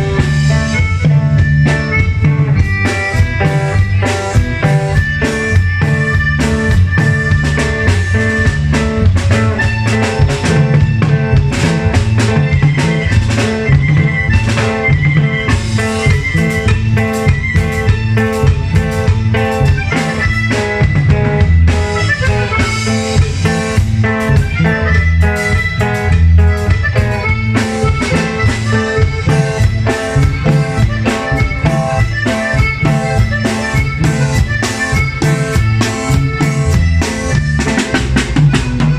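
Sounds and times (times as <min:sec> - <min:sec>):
band playing instrumental music: 0:00.0 - 0:38.9
drum kit beat: 0:00.0 - 0:38.9.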